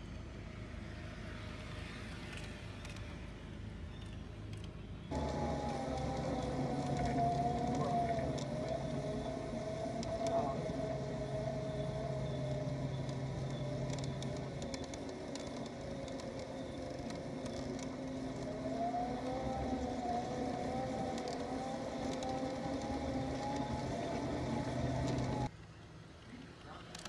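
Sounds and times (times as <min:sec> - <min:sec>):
model streetcar motor whine: 0:00.0 - 0:25.5
low hum: 0:00.0 - 0:26.3.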